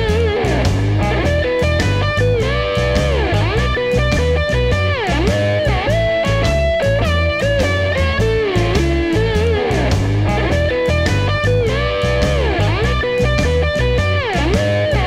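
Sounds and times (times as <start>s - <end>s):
rock music with electric guitar: 0.0s - 15.0s.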